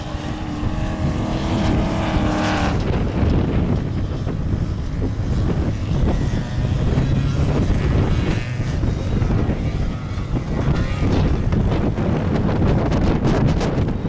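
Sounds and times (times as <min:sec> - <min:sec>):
off-road vehicle engine running: 0:00.0 - 0:14.0
wind buffeting microphone: 0:00.0 - 0:14.0.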